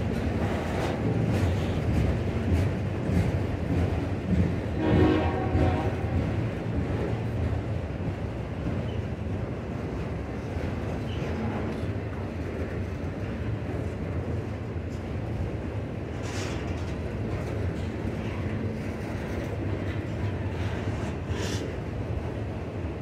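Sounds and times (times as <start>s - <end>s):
freight train wheels rumbling on rails: 0.0s - 23.0s.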